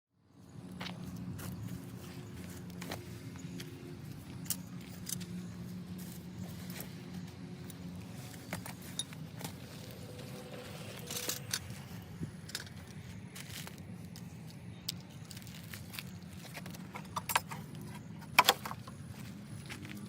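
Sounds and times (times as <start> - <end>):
steady low hum: 0.2 - 20.0.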